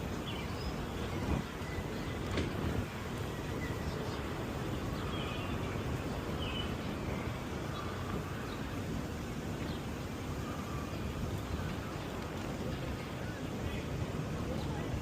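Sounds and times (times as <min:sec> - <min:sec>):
traffic: 0:00.0 - 0:15.0.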